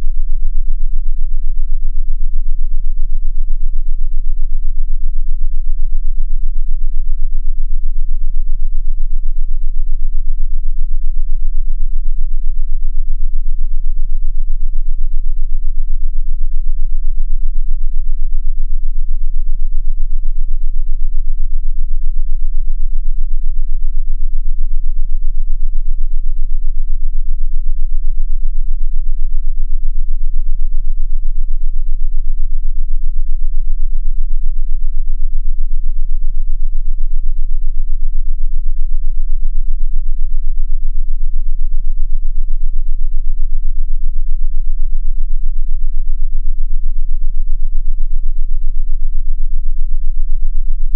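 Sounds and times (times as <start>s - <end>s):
faint hum: 0.0s - 50.9s.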